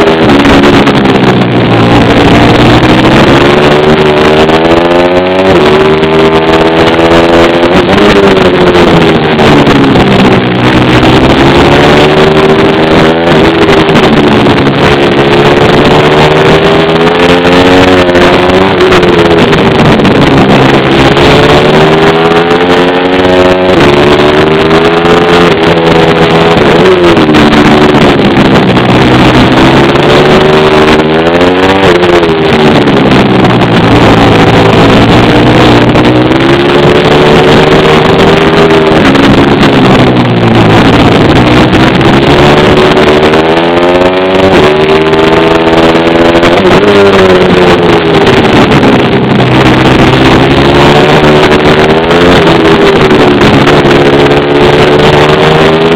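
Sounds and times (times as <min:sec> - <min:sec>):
small motorcycle engine revving: 0:00.0 - 0:55.9.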